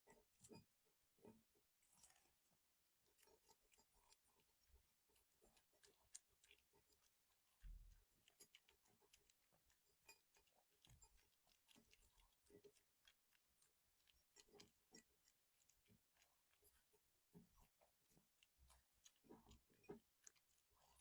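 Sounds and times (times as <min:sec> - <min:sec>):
dog chewing food: 0:03.2 - 0:21.0.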